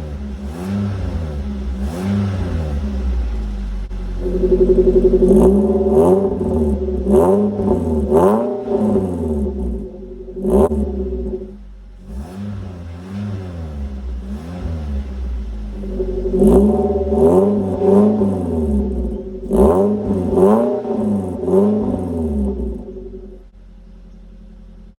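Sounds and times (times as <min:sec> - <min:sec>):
car engine revving in blips: 0:00.0 - 0:25.0.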